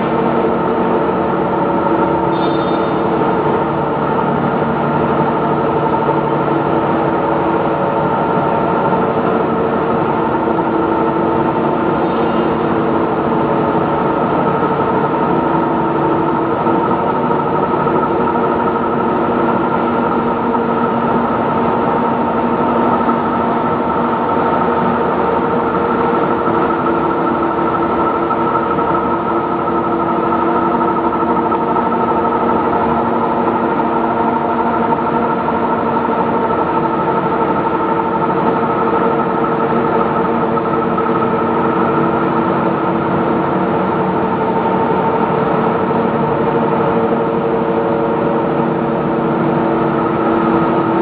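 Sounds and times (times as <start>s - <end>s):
steady machinery drone: 0.0s - 51.0s.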